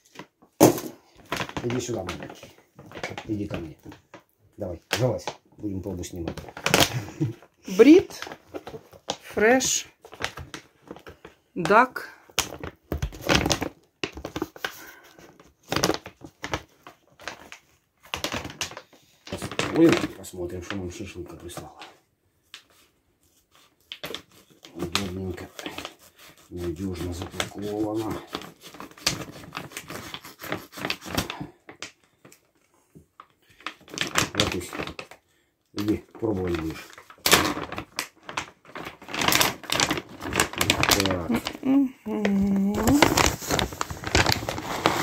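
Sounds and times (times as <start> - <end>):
bag crinkling and rustling: 0.0 - 45.0.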